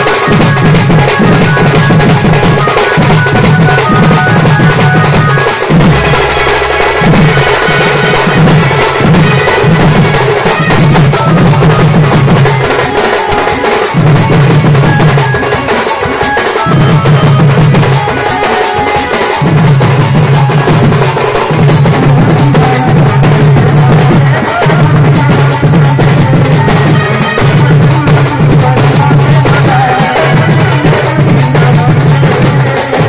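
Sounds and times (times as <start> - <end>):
barrel drums beaten fast: 0.0 - 33.0.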